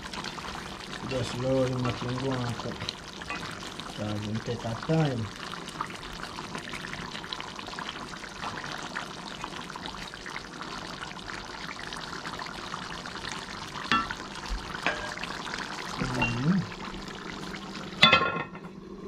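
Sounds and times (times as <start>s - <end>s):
sauce bubbling in a pot: 0.0s - 19.0s.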